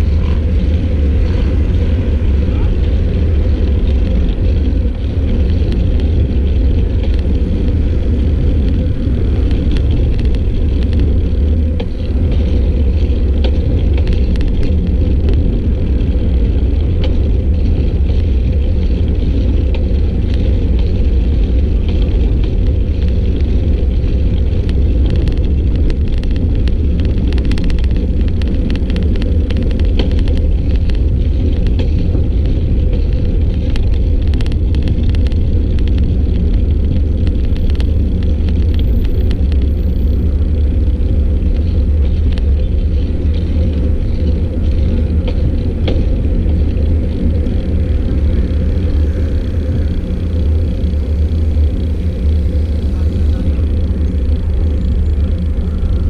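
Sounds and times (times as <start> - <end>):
bicycle ticks and rattles: 0.0 - 56.0
wind rumble on microphone: 0.0 - 56.0.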